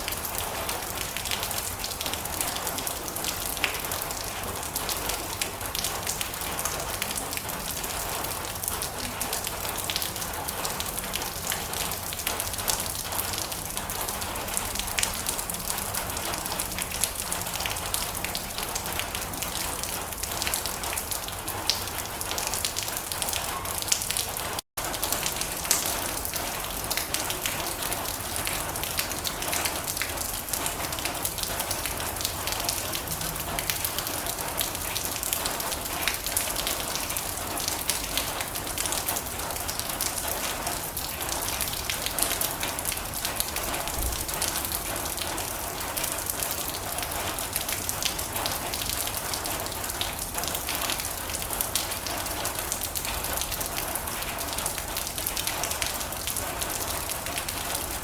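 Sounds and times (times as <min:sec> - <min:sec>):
rain drumming on a metal roof: 0:00.0 - 0:58.0.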